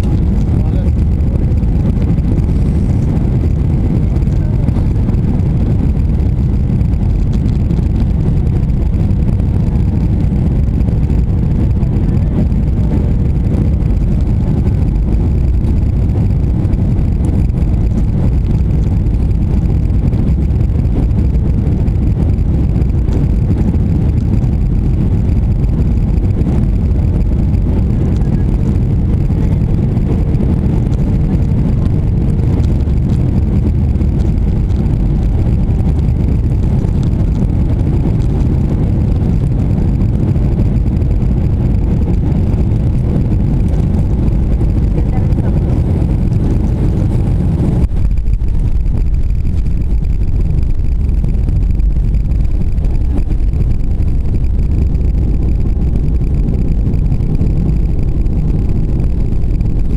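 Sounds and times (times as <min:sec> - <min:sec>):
jet cabin low rumble: 0:00.0 - 0:59.9.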